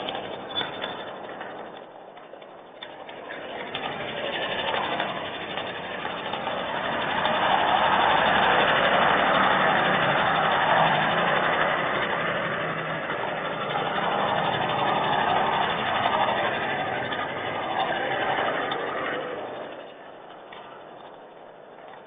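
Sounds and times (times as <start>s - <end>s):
vehicle passing with engine hum: 0.0s - 22.0s.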